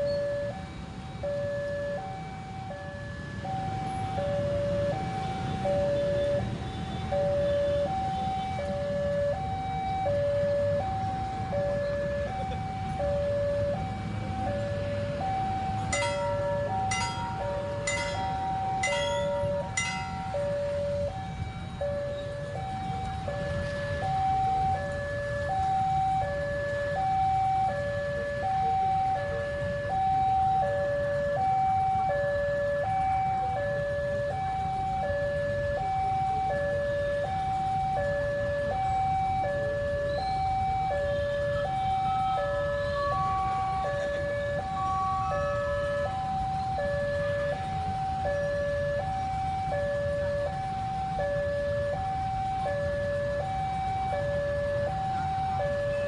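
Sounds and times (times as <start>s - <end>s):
level crossing alarm: 0.0s - 56.0s
low rumble of road traffic: 0.0s - 56.0s.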